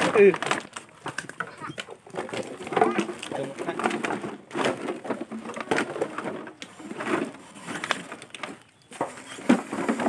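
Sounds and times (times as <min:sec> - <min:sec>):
plastic bottles crackling and knocking: 0:00.0 - 0:10.0.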